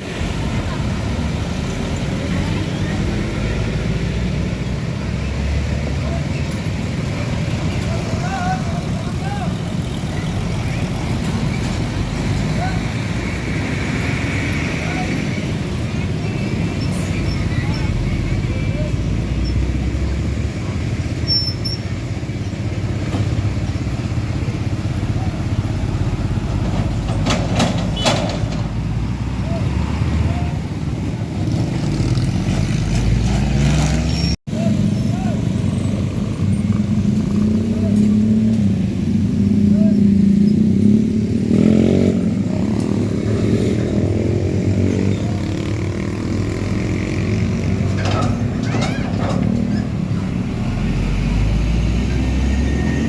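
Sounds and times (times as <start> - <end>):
road traffic passing: 0.0 - 53.0
truck engine rumbling: 0.0 - 53.0.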